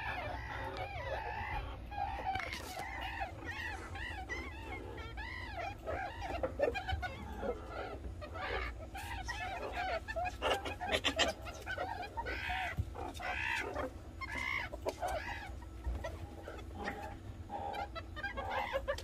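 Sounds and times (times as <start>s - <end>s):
meerkats chirping: 0.0s - 19.0s.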